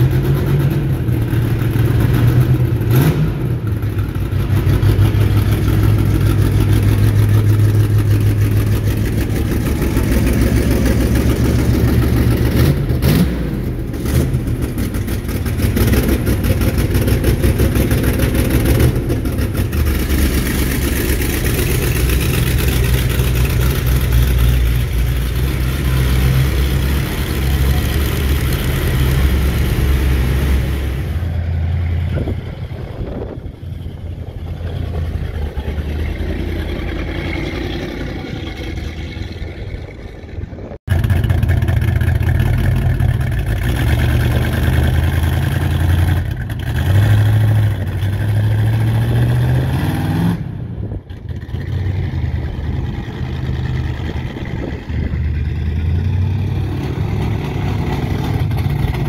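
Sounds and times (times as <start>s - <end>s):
vehicle engine running: 0.0s - 49.5s, 50.8s - 59.0s.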